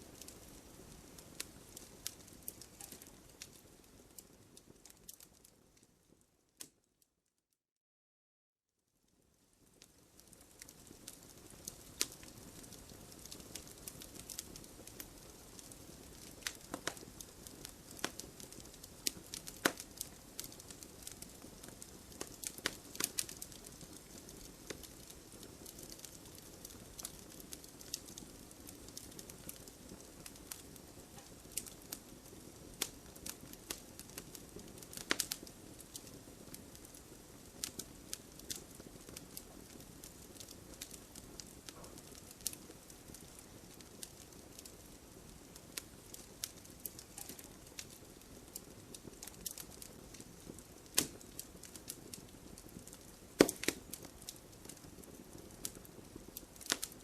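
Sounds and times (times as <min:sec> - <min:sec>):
wood fire crackling and popping: 0:00.0 - 0:06.8, 0:09.1 - 0:57.0
hiss of flames: 0:09.9 - 0:57.0.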